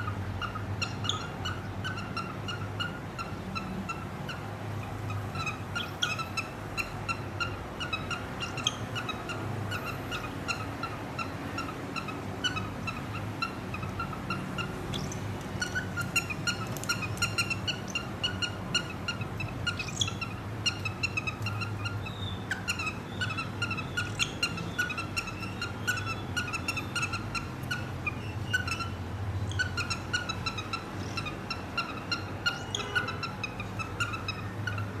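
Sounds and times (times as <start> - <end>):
cockatiels chirping: 0.0 - 35.0.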